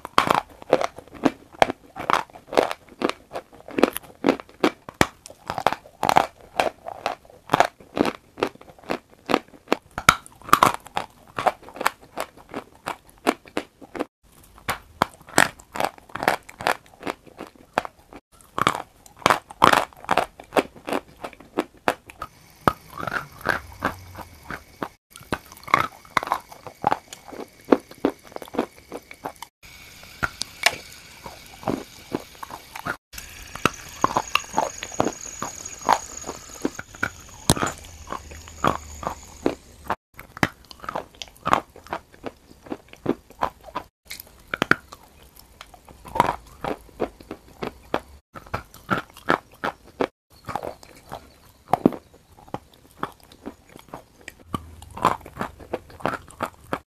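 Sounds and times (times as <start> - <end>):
crunching and chewing chalk: 0.0 - 56.9.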